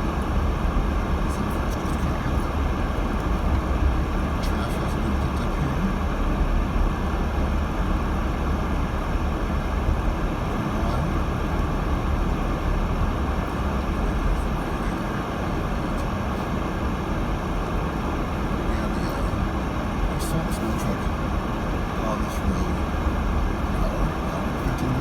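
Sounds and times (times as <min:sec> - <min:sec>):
car engine drone: 0:00.0 - 0:25.0
tyre and road rumble: 0:00.0 - 0:25.0.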